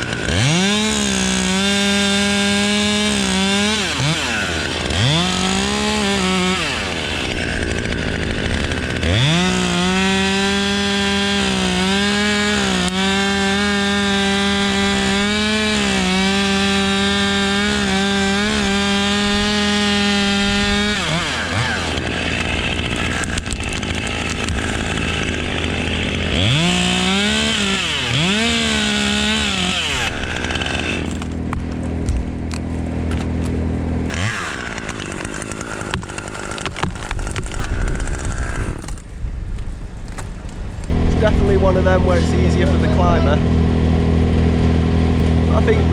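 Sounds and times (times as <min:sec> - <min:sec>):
chainsaw idling and revving: 0:00.0 - 0:39.1, 0:40.9 - 0:45.9.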